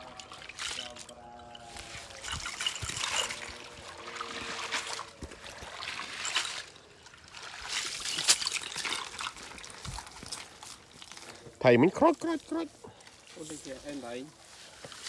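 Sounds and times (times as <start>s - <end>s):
muddy water sloshing and splashing: 0.0s - 11.6s, 12.4s - 15.0s.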